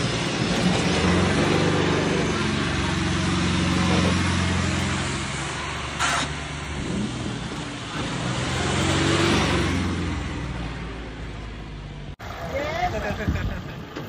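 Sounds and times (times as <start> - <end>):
tractor diesel engine under load: 0.0 - 12.5.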